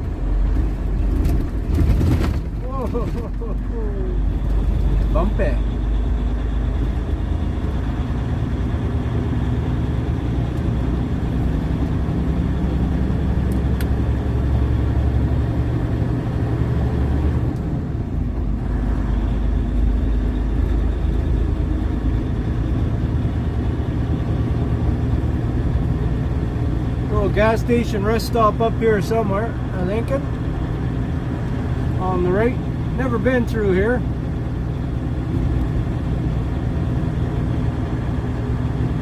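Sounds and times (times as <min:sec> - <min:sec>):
diesel engine running: 0:00.0 - 0:39.0
road noise: 0:00.0 - 0:39.0.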